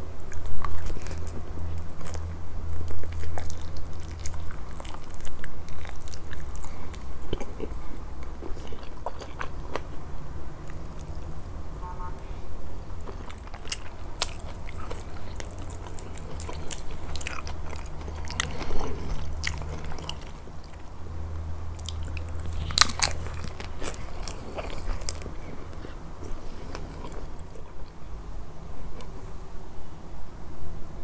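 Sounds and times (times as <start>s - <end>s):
chewing and crunching: 0.0s - 28.1s
steady low hum: 0.0s - 31.0s.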